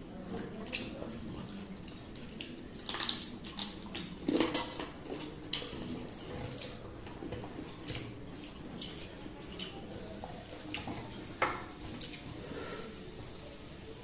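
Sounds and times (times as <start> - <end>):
wet chewing: 0.2 - 13.6.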